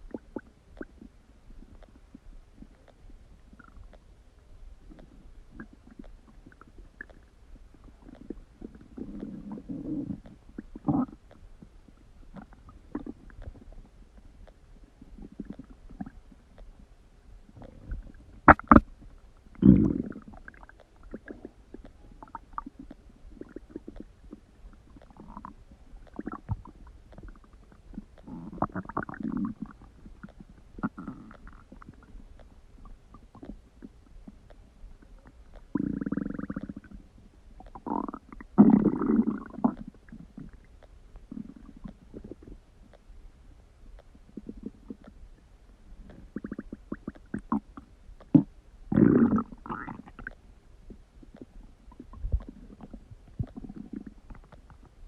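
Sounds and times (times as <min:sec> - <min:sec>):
stomach rumbling and gurgling: 0:00.0 - 0:55.0.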